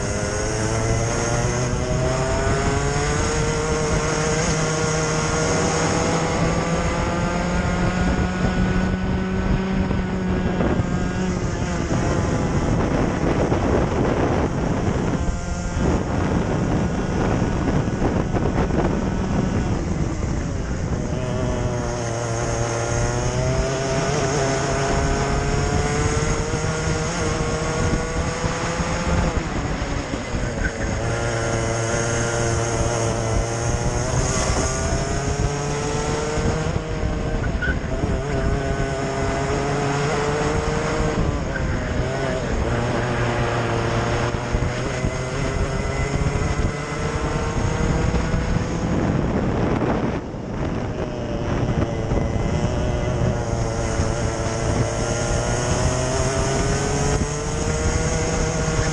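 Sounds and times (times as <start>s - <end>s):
kart engine revving: 0.0s - 58.9s
wind rushing: 0.0s - 58.9s.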